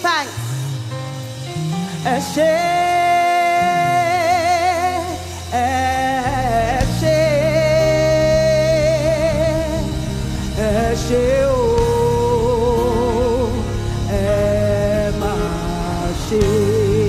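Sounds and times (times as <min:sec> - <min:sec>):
low musical accompaniment: 0:00.0 - 0:17.0
person singing long wavering notes: 0:01.9 - 0:17.0.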